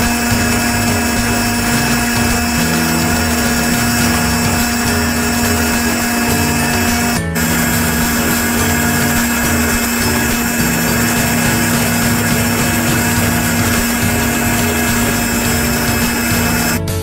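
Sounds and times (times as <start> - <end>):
small electric motor humming: 0.0 - 17.0.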